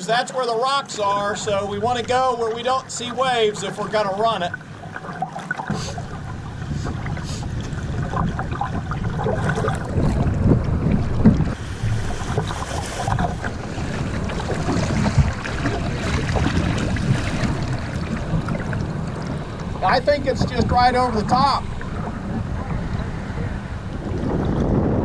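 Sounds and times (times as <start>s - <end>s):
river water rushing and splashing: 0.0s - 25.0s
wind buffeting microphone: 1.0s - 5.0s, 5.7s - 25.0s.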